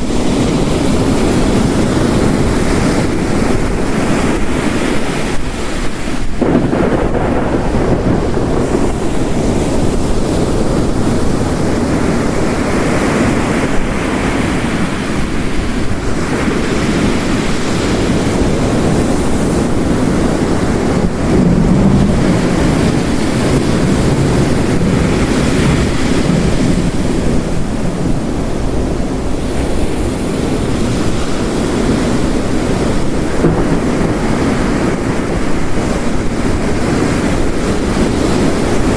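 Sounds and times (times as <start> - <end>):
heavy rain: 0.0 - 38.9
ocean waves crashing on rocks: 0.0 - 38.9.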